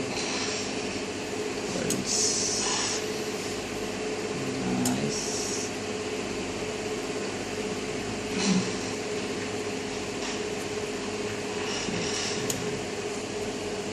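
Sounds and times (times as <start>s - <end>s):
room noise hum and hiss: 0.0s - 13.9s.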